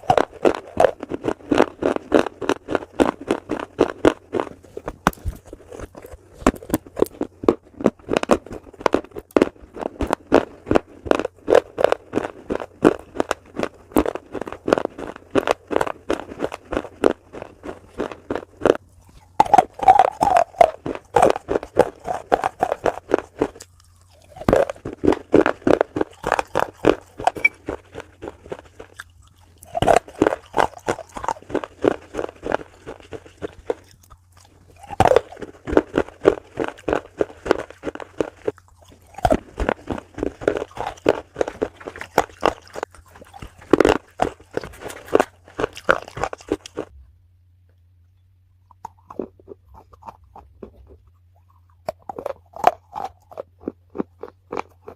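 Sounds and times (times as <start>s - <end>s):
chewing crunchy food: 0.0s - 47.0s, 48.2s - 54.9s.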